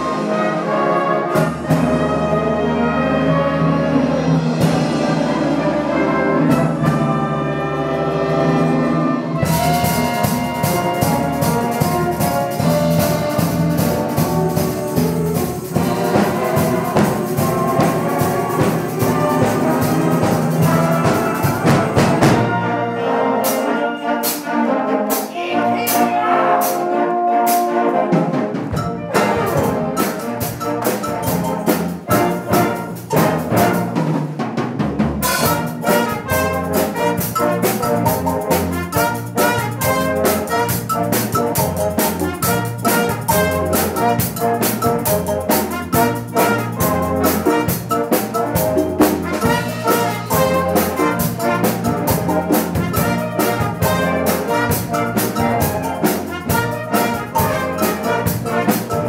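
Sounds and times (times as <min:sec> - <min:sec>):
drum kit and percussion: 0:00.0 - 0:59.0
wind orchestra playing upbeat piece: 0:00.0 - 0:59.0.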